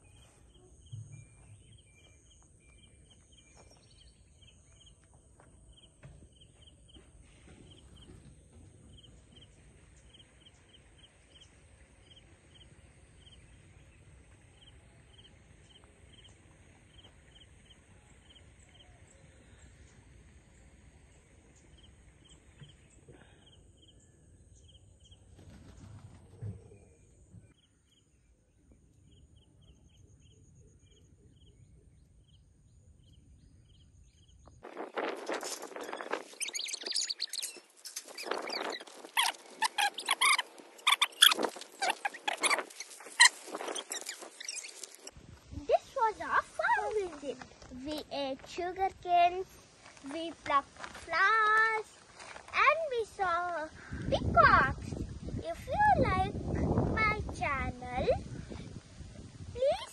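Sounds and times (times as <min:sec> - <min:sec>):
faint outdoor background noise: 0:00.0 - 0:59.9.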